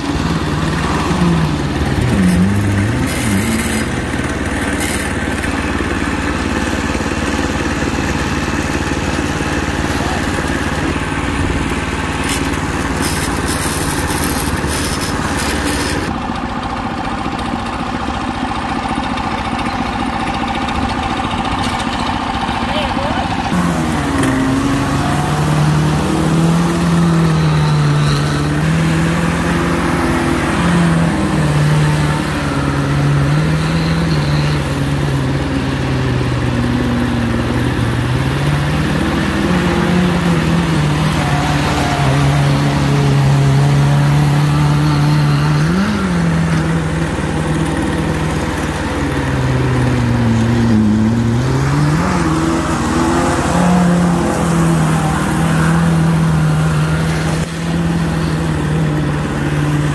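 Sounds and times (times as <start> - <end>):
engine at high revs: 0.0 - 59.9
tyres spinning: 0.0 - 59.9.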